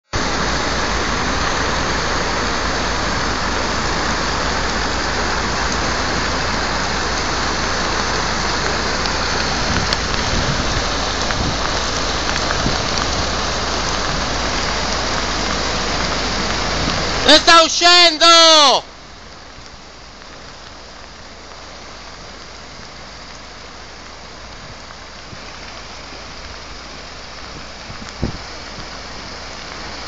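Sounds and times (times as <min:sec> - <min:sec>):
heavy rain pouring: 0:00.1 - 0:30.0.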